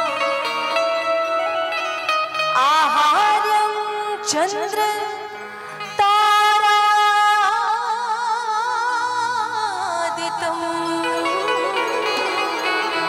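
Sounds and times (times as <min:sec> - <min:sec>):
woman singing with vibrato: 0:02.4 - 0:13.0.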